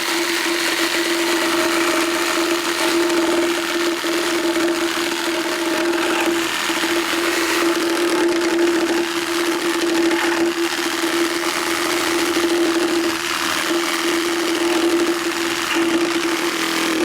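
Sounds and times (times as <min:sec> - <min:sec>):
reciprocating saw running: 0:00.0 - 0:17.0.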